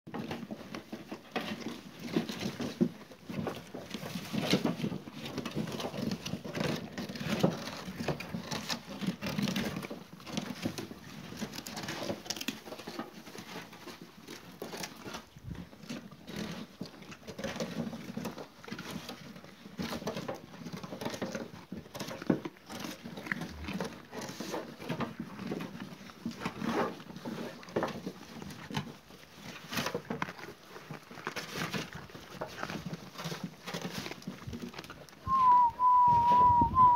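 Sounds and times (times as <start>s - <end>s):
sheep crunching dry feed: 0.1s - 36.9s.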